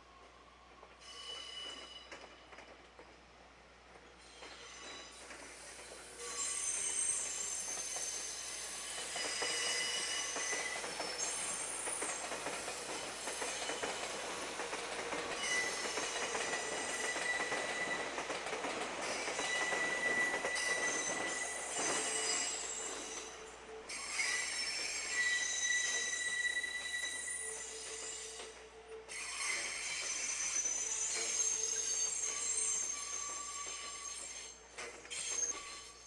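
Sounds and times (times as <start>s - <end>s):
train wheels squealing: 0.8s - 2.8s, 4.2s - 36.0s
wheels rattling on rail joints: 3.9s - 36.0s.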